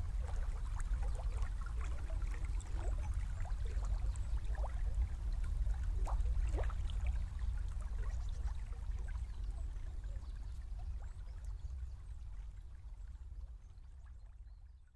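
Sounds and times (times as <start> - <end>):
small river gurgling: 0.0 - 14.6.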